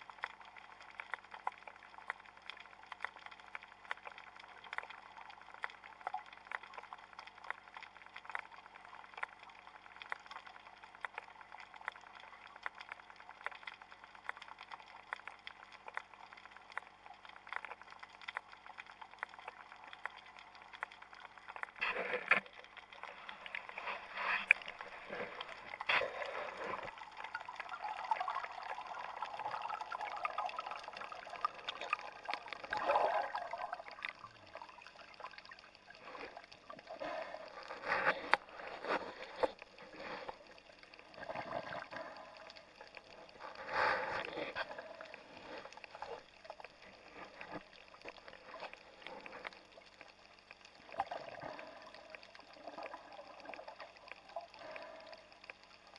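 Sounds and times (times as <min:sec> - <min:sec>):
water swishing and gurgling: 0:00.0 - 0:55.9.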